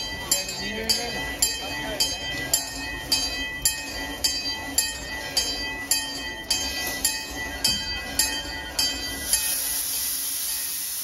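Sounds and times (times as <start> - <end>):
steady ringing tone: 0.0 - 11.0.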